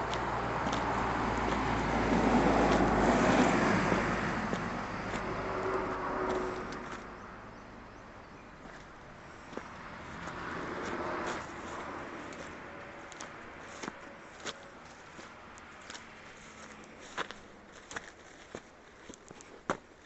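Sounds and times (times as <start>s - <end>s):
vehicle passing by: 0.0s - 17.8s.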